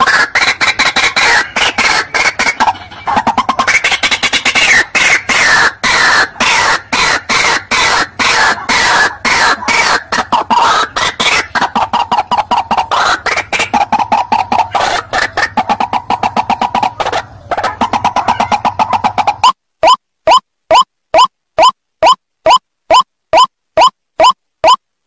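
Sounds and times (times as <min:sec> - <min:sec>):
harsh repeated bird calls: 0:00.0 - 0:24.8.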